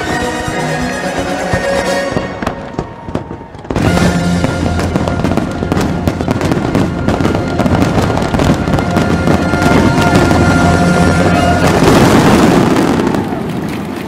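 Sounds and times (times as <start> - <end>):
loud show music: 0.0 - 2.8, 3.7 - 12.9
fireworks popping and crackling: 0.0 - 14.0.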